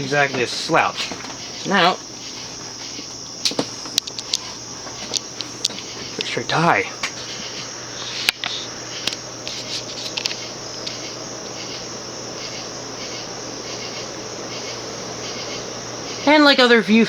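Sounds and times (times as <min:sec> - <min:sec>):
ceiling fan humming and buzzing: 0:00.0 - 0:17.0.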